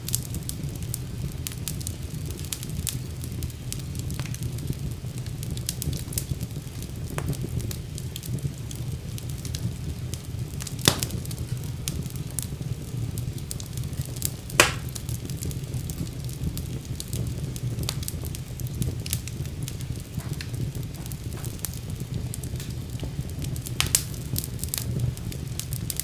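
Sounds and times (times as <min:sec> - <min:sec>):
fire crackling: 0:00.0 - 0:26.0
fire popping: 0:00.0 - 0:26.0
fire rumbling: 0:00.0 - 0:26.0.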